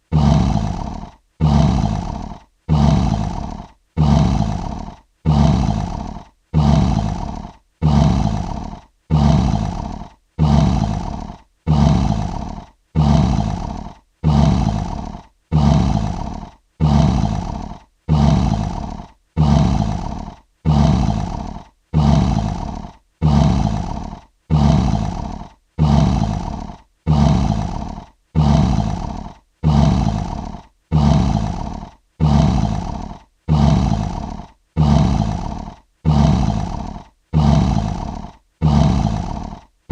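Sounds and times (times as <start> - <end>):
lion roaring: 0.1 - 39.9.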